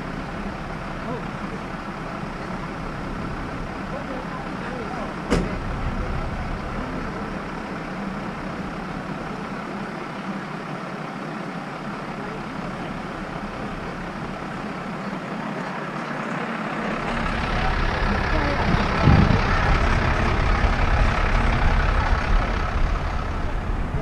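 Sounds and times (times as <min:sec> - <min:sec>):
large vehicle engine idling: 0:00.0 - 0:24.0.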